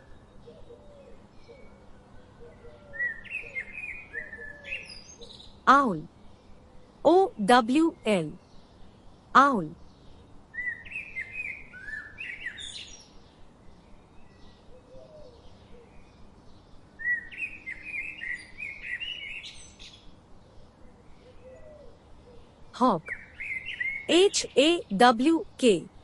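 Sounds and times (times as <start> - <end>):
songbird chirping: 0.0 - 26.0.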